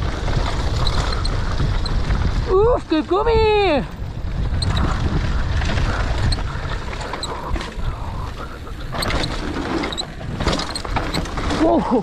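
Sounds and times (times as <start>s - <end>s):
bike rattling over bumps: 0.0s - 12.0s
tyres rolling on dirt: 0.0s - 12.0s
wind rush on microphone: 0.0s - 12.0s.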